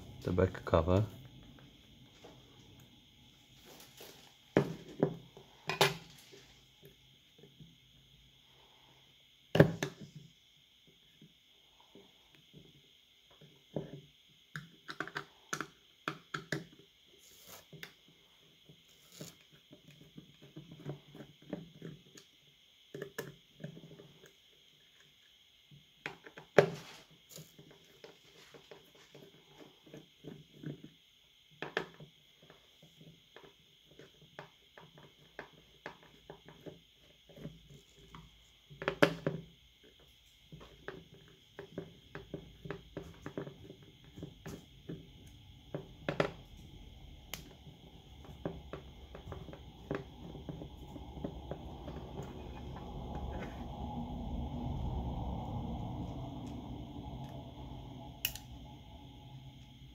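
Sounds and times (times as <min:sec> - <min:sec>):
faint high whine: 0:00.0 - 0:14.7, 0:26.6 - 0:59.9.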